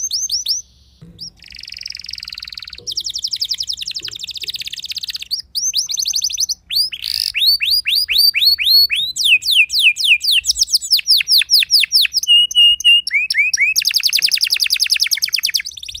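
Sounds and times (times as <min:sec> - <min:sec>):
canary singing trills: 0:00.0 - 0:16.0.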